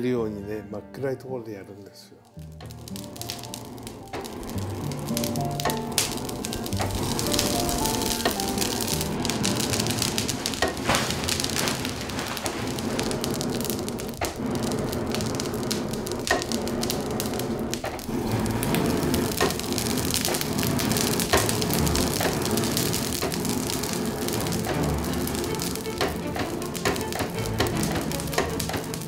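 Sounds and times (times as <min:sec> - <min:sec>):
charcoal fire crackling: 0:02.2 - 0:29.0
sharp pops of fire: 0:02.3 - 0:29.0.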